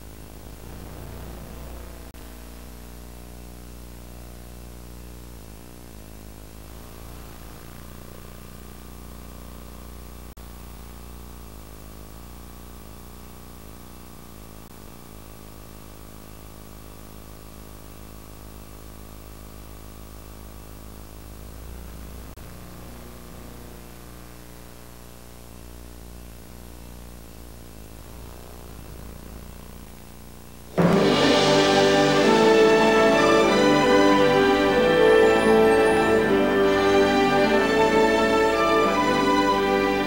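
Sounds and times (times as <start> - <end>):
tape hiss: 0.0 - 40.0.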